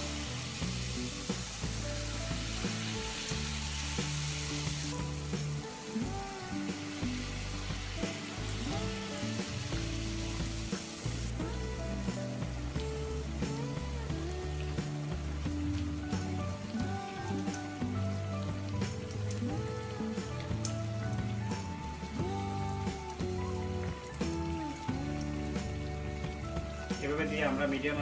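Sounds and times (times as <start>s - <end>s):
background music of held notes: 0.0s - 28.0s
batter sizzling in hot oil: 0.0s - 28.0s.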